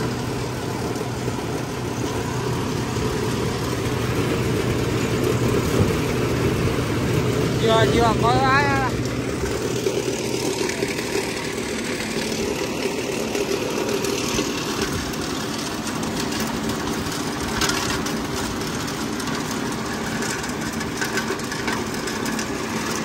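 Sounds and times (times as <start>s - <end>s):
chopping machine motor drone: 0.0s - 23.0s
leaves being shredded: 0.0s - 23.0s.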